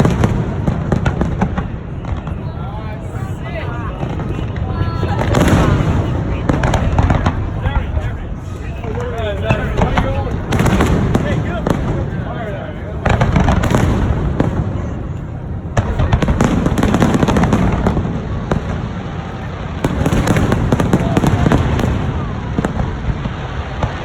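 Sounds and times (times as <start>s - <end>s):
deep fireworks booms: 0.0s - 24.0s
fireworks bursts and crackles: 0.0s - 24.0s.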